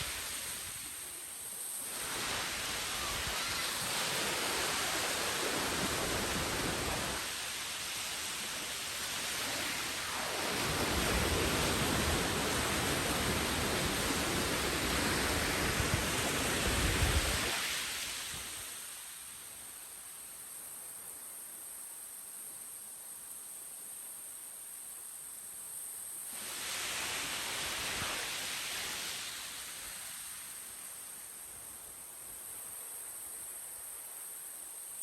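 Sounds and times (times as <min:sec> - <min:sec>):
surf washing up beach: 0:00.0 - 0:20.2, 0:26.2 - 0:35.0.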